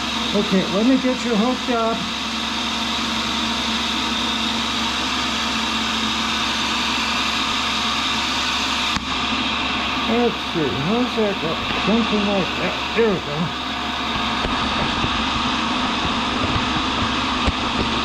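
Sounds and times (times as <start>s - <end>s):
grinder motor hum and whine: 0.0s - 18.0s.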